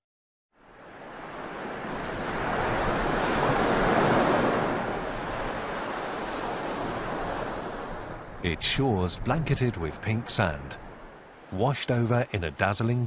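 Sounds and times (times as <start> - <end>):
ocean surf on sandy beach: 0.6 - 13.0.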